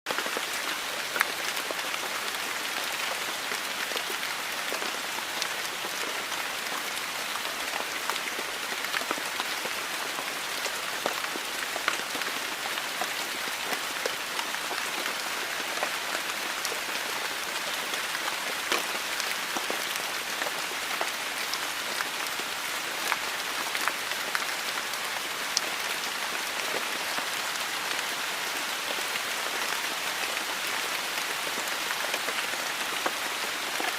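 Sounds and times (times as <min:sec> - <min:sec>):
rain pattering on hard surface: 0:00.1 - 0:33.9.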